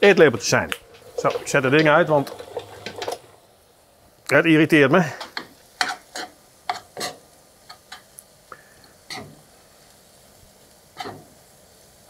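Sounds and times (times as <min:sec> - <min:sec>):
meat sizzling: 0:00.0 - 0:12.0.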